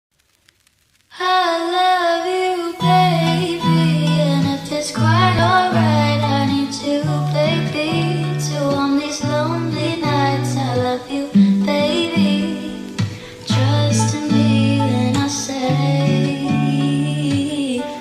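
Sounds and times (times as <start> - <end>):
person singing: 1.1 - 18.0
plucked guitar: 1.7 - 18.0.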